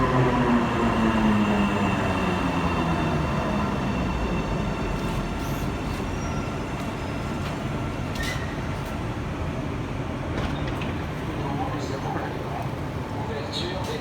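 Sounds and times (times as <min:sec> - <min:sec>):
light-rail train rumbling: 0:00.0 - 0:14.0.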